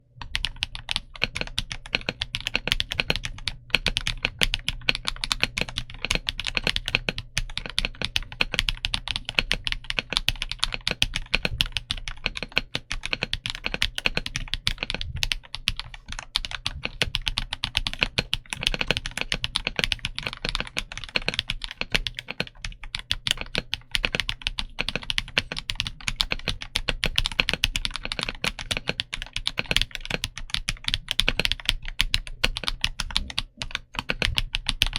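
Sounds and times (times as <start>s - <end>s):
fast typing on mechanical keyboard: 0.2s - 34.9s.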